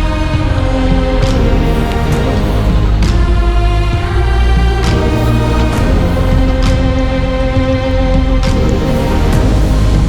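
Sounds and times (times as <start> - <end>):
background music with deep bass: 0.0 - 10.0.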